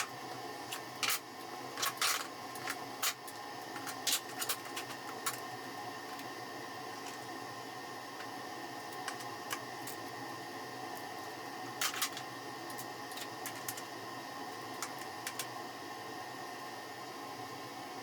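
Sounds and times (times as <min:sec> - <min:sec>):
workshop hum: 0:00.0 - 0:18.0.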